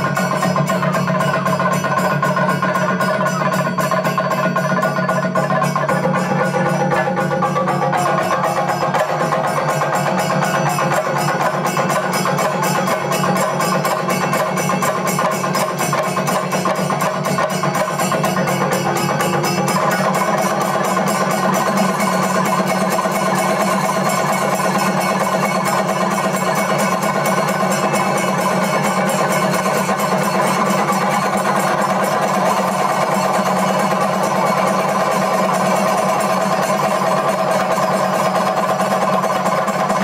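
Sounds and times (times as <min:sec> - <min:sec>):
drums beaten fast with sticks: 0:00.0 - 0:40.0
hand cymbals clashing: 0:00.0 - 0:40.0.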